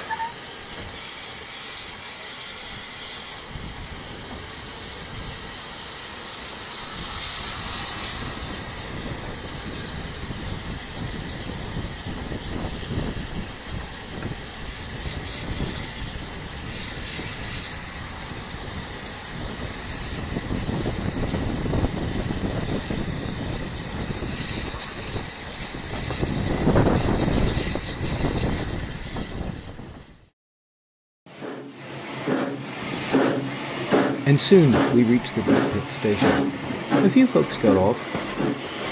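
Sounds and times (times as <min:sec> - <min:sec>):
steam hissing: 0:00.0 - 0:30.3, 0:31.3 - 0:38.9
train running on rails: 0:00.0 - 0:30.3, 0:31.3 - 0:38.9.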